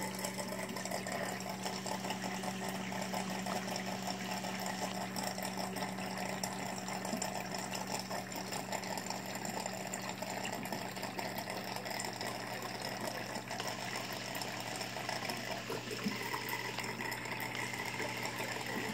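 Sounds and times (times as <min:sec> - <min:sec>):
circulating water rushing: 0:00.0 - 0:18.9
low pump hum: 0:00.0 - 0:18.9.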